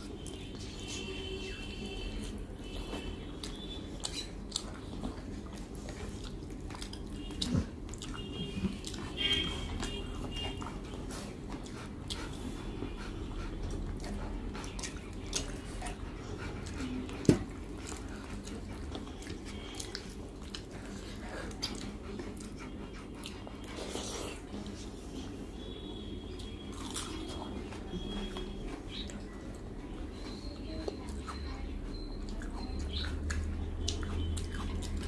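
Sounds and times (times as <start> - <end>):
chewing and lip smacks: 2.2 - 24.8, 26.2 - 35.0.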